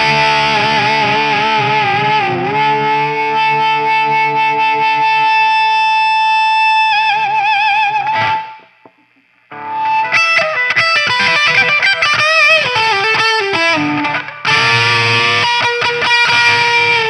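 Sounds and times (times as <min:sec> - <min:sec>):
distorted electric guitar with vibrato: 0:00.0 - 0:17.0.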